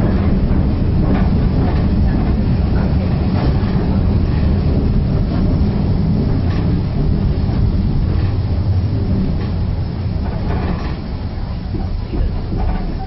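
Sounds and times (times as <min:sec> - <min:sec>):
train coach low rumble: 0:00.0 - 0:13.0.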